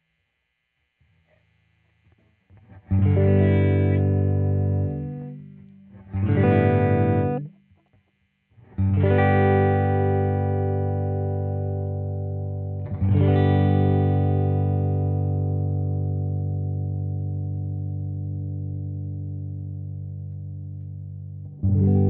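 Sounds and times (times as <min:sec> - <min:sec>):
electric guitar chords: 0:02.5 - 0:07.6, 0:08.6 - 0:22.0.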